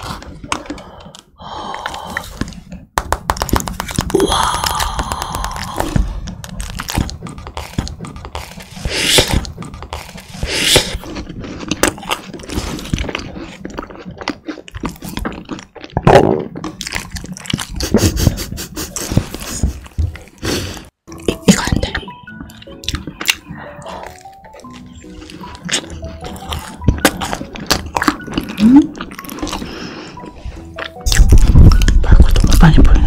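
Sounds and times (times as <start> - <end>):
close-miked eating sounds: 3.8 - 33.0.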